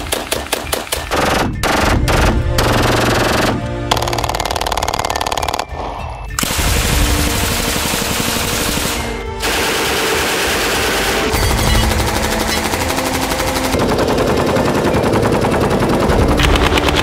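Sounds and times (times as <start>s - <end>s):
rapid automatic fire: 0.0s - 5.8s, 6.4s - 17.0s
gunfire: 0.0s - 14.6s, 16.2s - 17.0s
music: 0.0s - 17.0s.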